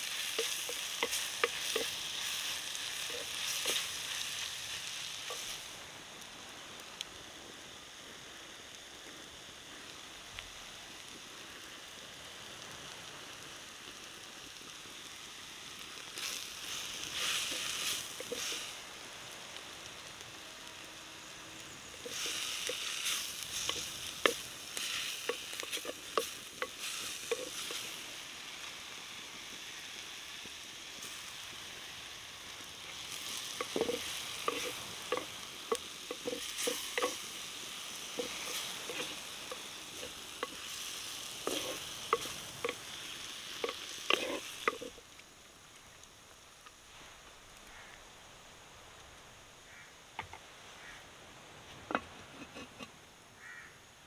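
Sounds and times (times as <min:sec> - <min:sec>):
vegetables sizzling in a pot: 0:00.0 - 0:48.6, 0:49.6 - 0:54.0.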